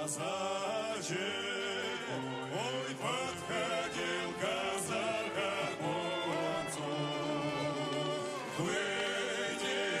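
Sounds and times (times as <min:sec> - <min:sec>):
song with singing voice: 0:00.0 - 0:10.0.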